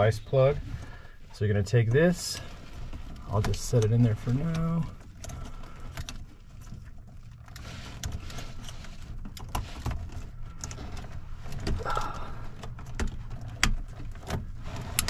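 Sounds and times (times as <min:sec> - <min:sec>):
cables rustling: 0:00.0 - 0:15.0.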